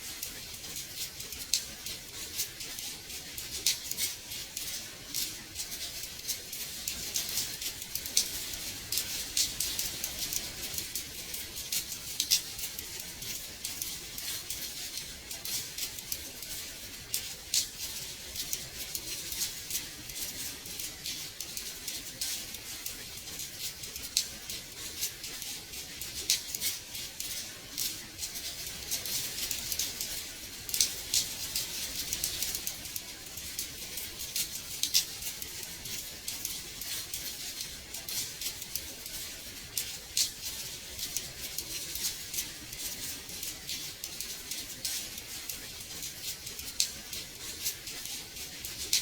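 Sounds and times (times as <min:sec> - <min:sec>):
light rain hiss: 0:00.0 - 0:49.0
raindrops ticking on glass: 0:00.1 - 0:49.0.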